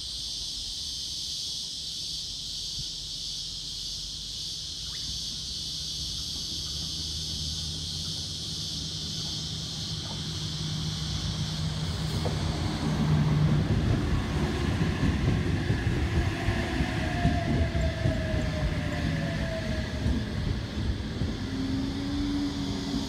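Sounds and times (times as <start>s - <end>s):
cicada chorus drone: 0.0s - 23.0s
electric train rumble: 0.0s - 23.0s.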